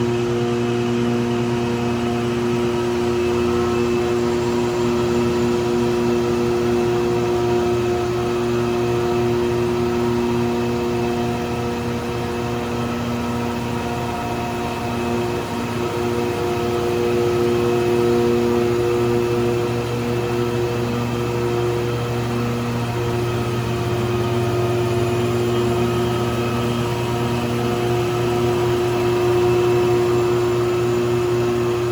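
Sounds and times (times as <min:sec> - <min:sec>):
pavement grinding machine droning: 0:01.2 - 0:31.9.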